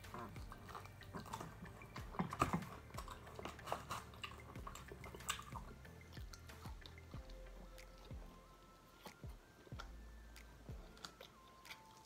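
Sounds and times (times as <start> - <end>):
chewing and biting: 0.0 - 12.0
teeth and lips clicking: 0.0 - 12.0.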